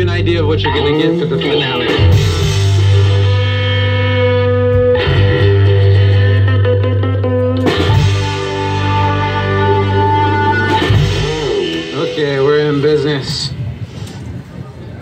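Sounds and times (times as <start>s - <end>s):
bass guitar low note: 0.0s - 13.6s
electric guitar chords: 0.0s - 13.8s.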